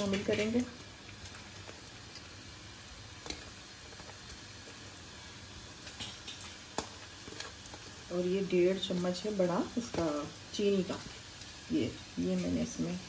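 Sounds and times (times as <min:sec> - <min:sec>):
carrots sizzling in oil: 0:00.0 - 0:13.0.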